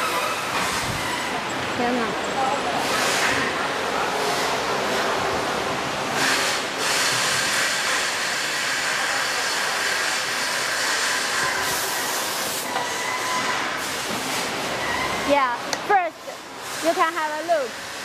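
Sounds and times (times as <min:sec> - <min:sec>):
hiss of factory machinery: 0:00.0 - 0:02.0, 0:02.6 - 0:18.0.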